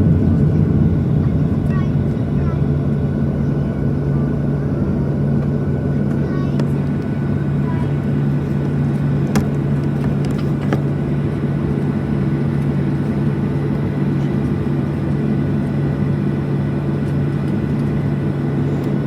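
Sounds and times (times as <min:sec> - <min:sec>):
jet engine cabin hum: 0:00.0 - 0:19.0.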